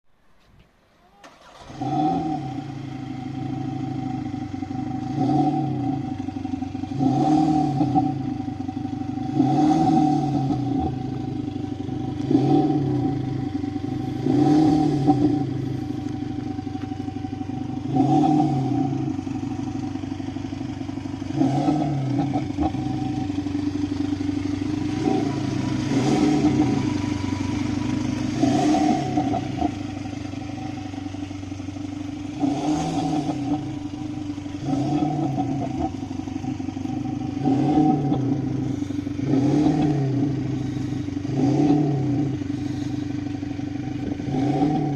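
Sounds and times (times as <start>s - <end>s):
diesel car engine starting: 0.2s - 44.9s
car engine idling and revving: 1.2s - 44.9s.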